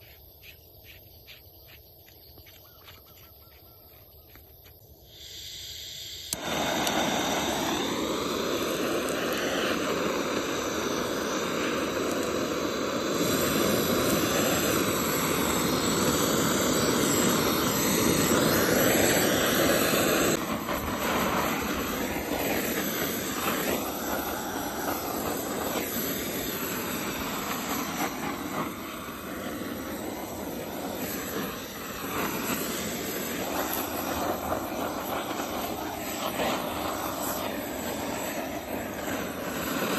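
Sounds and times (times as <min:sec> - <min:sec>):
blowtorch flame hissing: 0:04.2 - 0:39.9.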